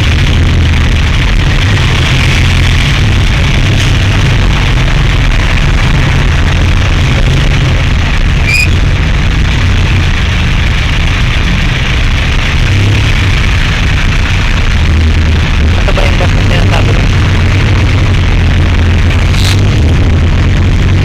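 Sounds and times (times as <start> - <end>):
road traffic noise: 0.0 - 21.0
vehicle engine rumble: 0.0 - 21.0.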